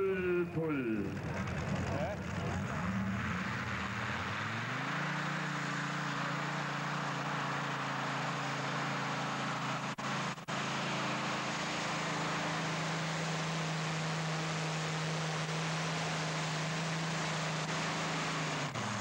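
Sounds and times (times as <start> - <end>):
tractor engine revving: 0.0 - 19.0.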